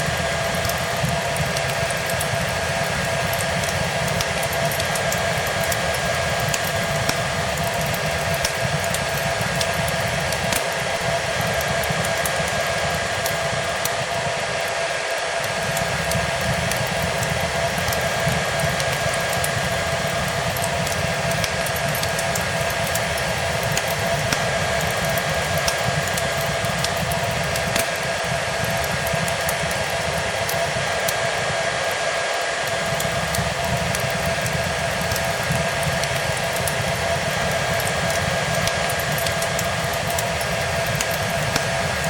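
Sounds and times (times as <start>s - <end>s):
hair dryer running: 0.0s - 42.0s
wood fire crackling: 0.0s - 42.0s.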